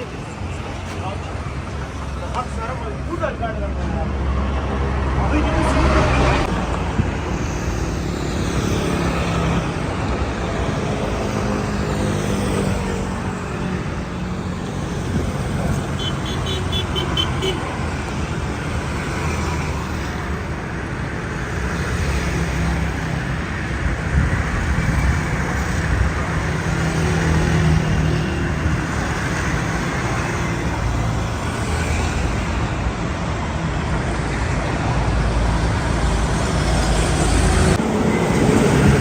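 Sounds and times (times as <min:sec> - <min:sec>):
road traffic engines: 0:00.0 - 0:39.0.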